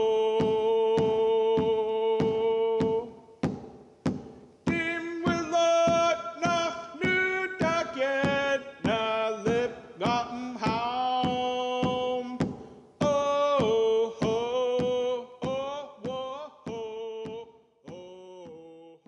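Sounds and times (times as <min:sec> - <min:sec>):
voice chanting a song: 0:00.0 - 0:03.6, 0:04.2 - 0:19.0
sharp beat: 0:00.0 - 0:18.8.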